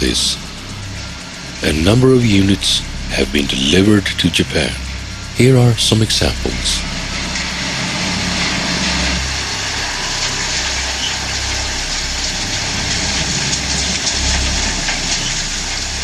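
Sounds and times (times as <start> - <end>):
constant hiss: 0.0 - 16.0
low engine drone: 0.0 - 16.0.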